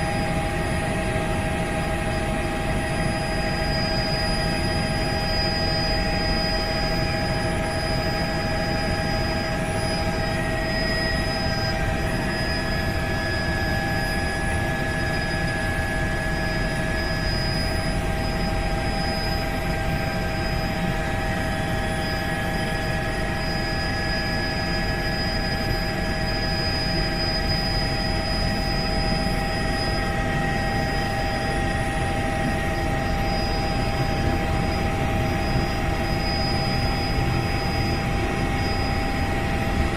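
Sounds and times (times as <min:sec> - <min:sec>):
helicopter engine whine: 0:00.0 - 0:39.9.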